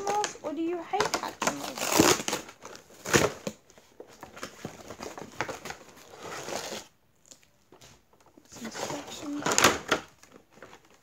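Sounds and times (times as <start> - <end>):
plastic packaging crinkling: 0.0 - 7.6, 8.5 - 11.0
cardboard rustling: 0.0 - 11.0.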